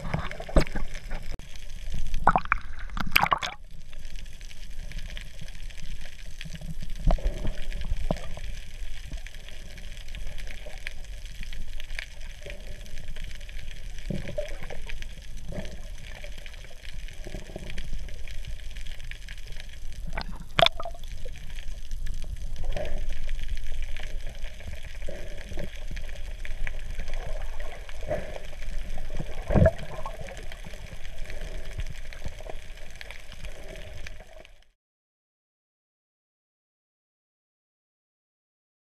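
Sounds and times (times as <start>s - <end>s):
muffled underwater water noise: 0.0s - 34.8s.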